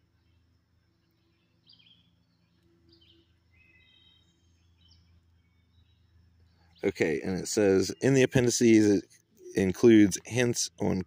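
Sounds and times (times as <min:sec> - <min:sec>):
faint bird chirps: 0:00.0 - 0:11.0
low steady hum: 0:00.0 - 0:11.0.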